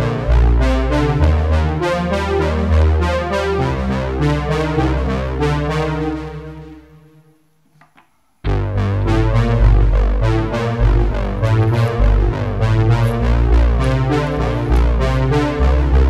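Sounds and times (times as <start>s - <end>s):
background music with bass: 0.0s - 7.2s, 8.4s - 16.0s.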